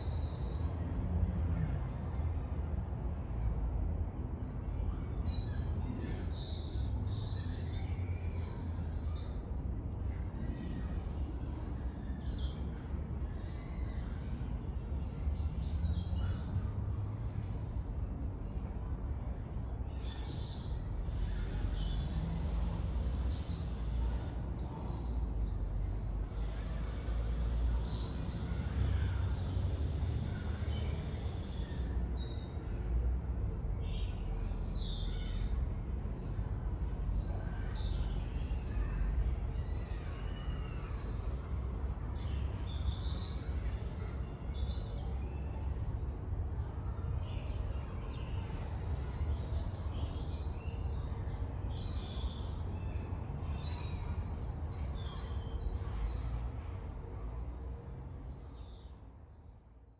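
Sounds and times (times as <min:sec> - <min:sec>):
low rumble of traffic: 0:00.0 - 0:59.9.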